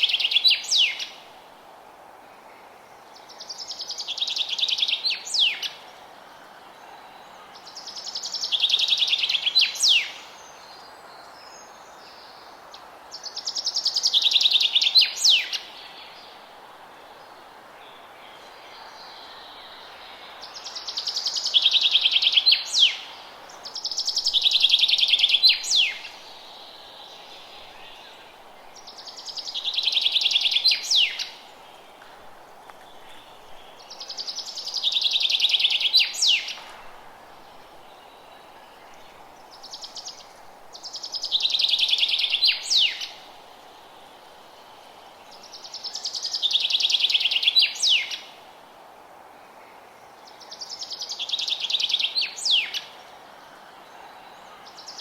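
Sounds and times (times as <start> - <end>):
steady low hiss: 0.0 - 55.0.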